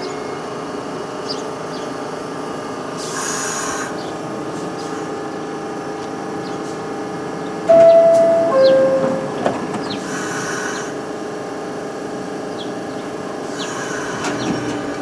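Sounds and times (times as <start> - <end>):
subway train equipment hum: 0.0 - 15.0.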